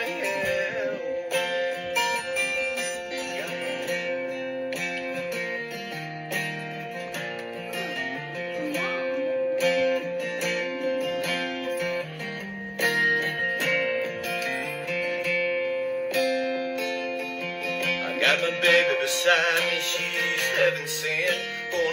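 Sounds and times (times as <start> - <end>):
acoustic guitar song: 0.0 - 21.9.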